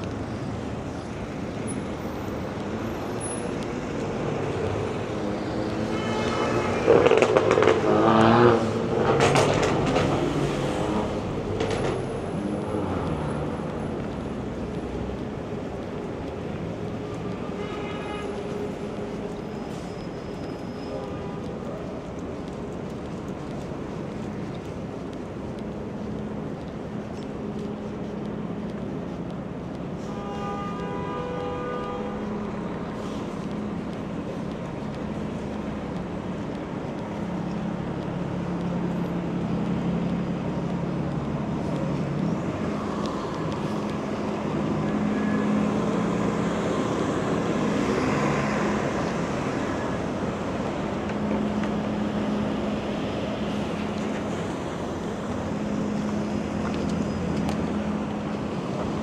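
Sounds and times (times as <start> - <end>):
hum of passing vehicles: 0.0 - 17.4, 21.8 - 59.0.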